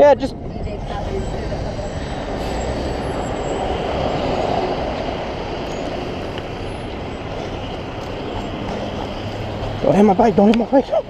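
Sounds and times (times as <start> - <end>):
vehicle rumble and road noise: 0.0 - 11.0.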